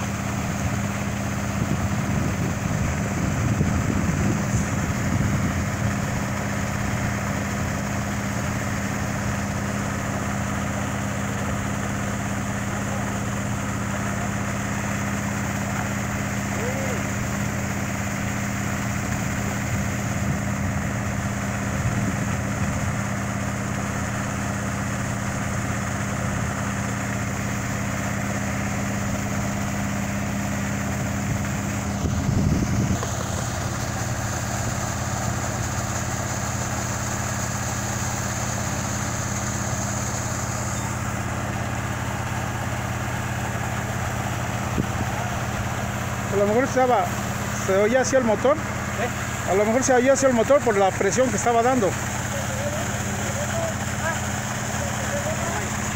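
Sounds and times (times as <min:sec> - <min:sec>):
pump motor humming: 0:00.0 - 0:55.9.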